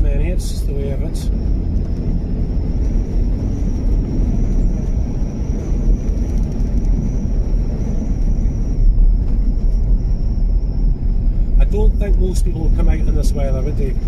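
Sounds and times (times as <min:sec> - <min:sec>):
tyres and engine rumbling: 0:00.0 - 0:14.0.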